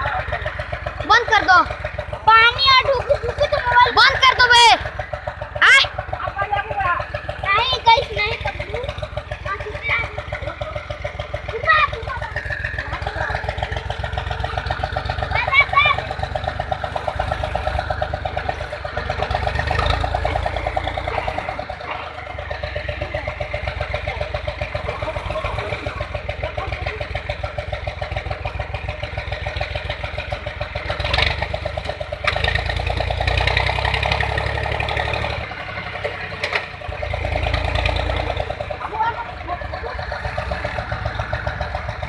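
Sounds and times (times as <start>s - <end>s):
diesel tractor engine chugging: 0.0s - 42.0s.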